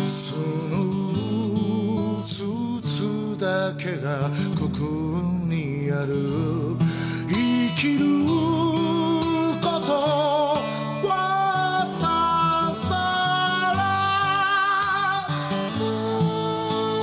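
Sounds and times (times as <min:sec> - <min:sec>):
slow song with guitar: 0:00.0 - 0:17.0.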